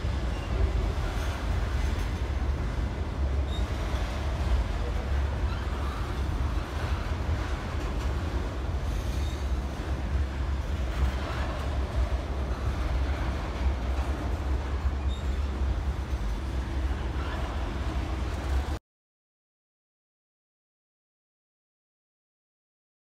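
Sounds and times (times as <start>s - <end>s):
train wheels rumbling on rail: 0.0s - 18.8s.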